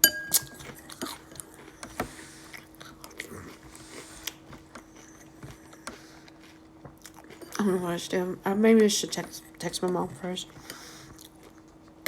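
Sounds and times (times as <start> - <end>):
person chewing crunchy cereal: 0.3 - 12.0.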